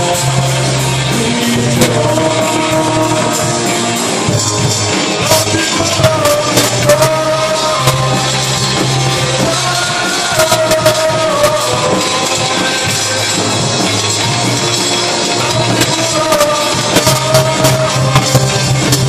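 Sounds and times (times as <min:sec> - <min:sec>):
bass guitar: 0:00.0 - 0:19.0
electric guitar: 0:00.0 - 0:19.0.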